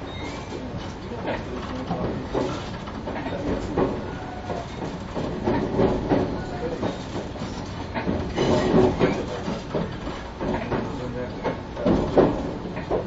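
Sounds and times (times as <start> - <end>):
train wheels rumbling on track: 0.0 - 13.0
clattering knocks: 0.9 - 13.0.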